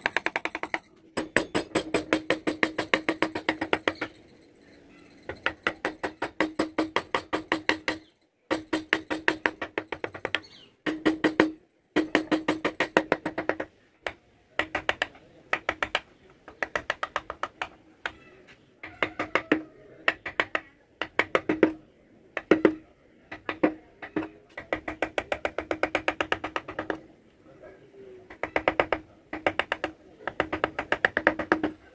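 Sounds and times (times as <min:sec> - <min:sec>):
mallet tapping chisel into wood: 0:00.0 - 0:04.2, 0:05.3 - 0:18.2, 0:18.8 - 0:21.8, 0:22.4 - 0:27.0, 0:28.3 - 0:31.8.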